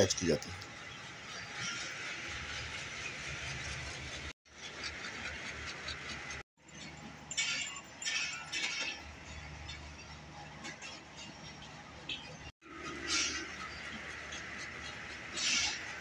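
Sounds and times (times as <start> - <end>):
train coaches rumbling: 0.0 - 6.4, 9.2 - 16.0.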